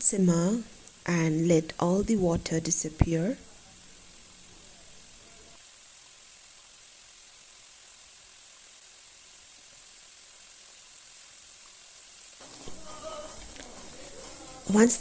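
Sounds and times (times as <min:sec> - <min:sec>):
gravy sizzling in oil: 0:00.1 - 0:15.0.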